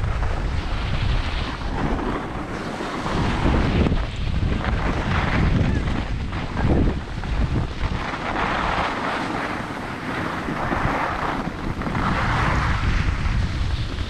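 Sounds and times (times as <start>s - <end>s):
sliding scrape on snow: 0.0s - 14.0s
wind rumbling on microphone: 0.0s - 14.0s.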